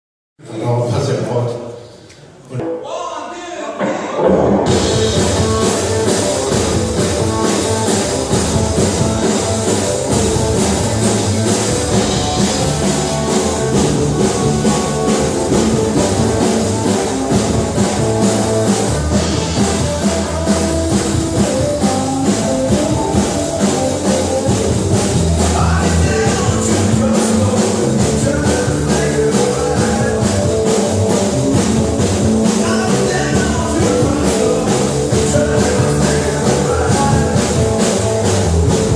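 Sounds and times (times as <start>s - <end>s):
rock and roll band playing: 2.6s - 38.9s
drum kit beat: 3.7s - 38.9s.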